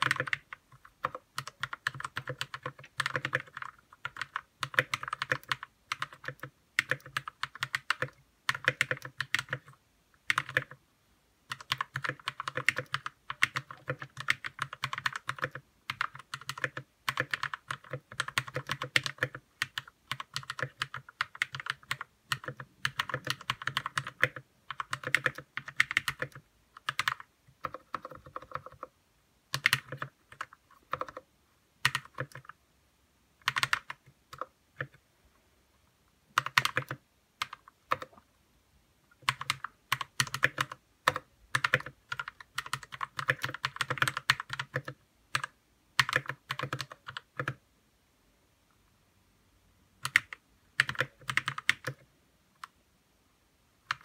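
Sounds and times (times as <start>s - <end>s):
fast typing on mechanical keyboard: 0.0s - 10.8s, 11.5s - 28.9s, 29.5s - 31.2s, 31.8s - 32.6s, 33.4s - 35.0s, 36.4s - 38.2s, 39.2s - 47.6s, 50.0s - 52.0s.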